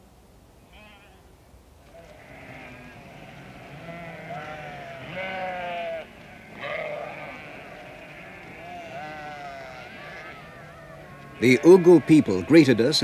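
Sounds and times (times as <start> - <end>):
flock bleating: 1.9 - 13.0.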